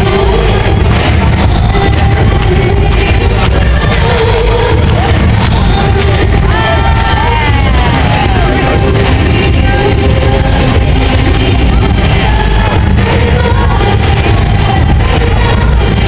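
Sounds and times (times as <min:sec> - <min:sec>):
loud music with singing: 0:00.0 - 0:16.0.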